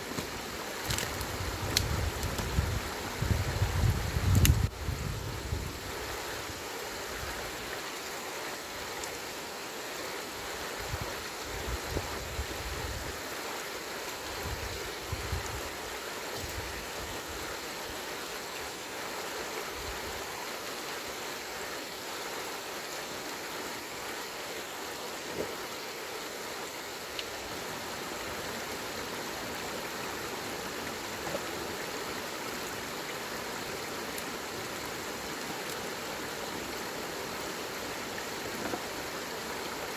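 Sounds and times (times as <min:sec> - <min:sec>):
river water rushing: 0:05.4 - 0:39.9.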